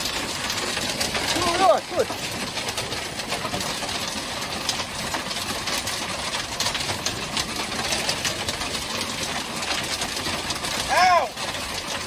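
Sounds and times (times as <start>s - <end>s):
hail clattering on boat deck: 0.0s - 12.0s.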